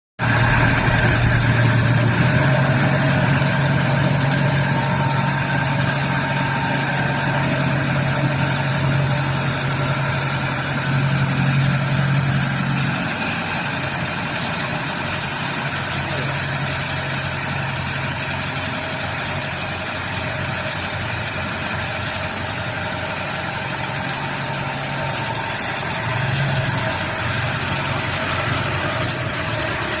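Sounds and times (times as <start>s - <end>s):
heavy vehicle engine idling: 0.2s - 30.0s.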